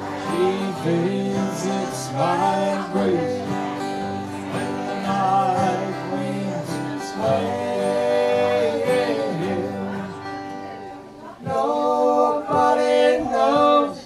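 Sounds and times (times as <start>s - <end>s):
man singing: 0.0s - 10.5s, 11.4s - 14.0s
acoustic guitars strummed: 0.0s - 14.0s.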